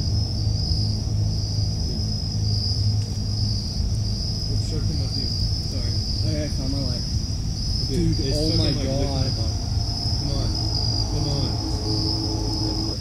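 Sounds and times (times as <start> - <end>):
crickets chirping: 0.0 - 13.0
low background rumble: 0.0 - 13.0.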